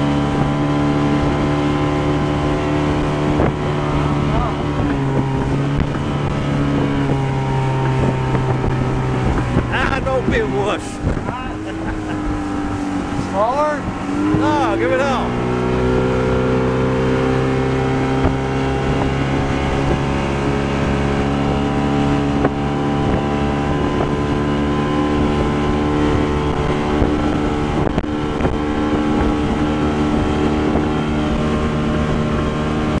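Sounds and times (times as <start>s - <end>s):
outboard motor running: 0.0s - 33.0s
wind on microphone: 0.0s - 33.0s.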